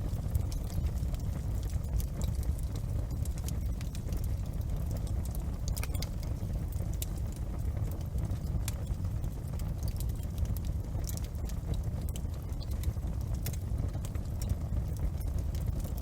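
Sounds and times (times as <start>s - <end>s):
fire crackling and popping: 0.0s - 16.0s
low rumble of burning fire: 0.0s - 16.0s.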